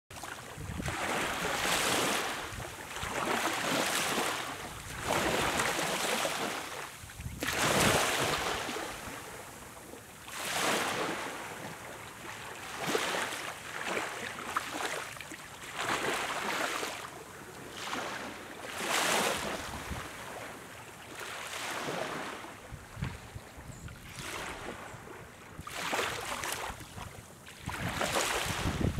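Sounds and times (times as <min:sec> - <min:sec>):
small waves lapping on sand: 0:00.1 - 0:28.9.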